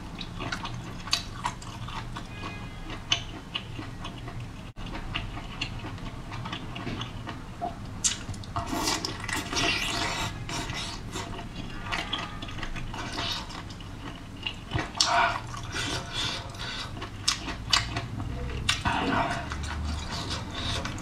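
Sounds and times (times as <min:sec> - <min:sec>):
wet chewing and lip-smacking: 0:00.2 - 0:21.0.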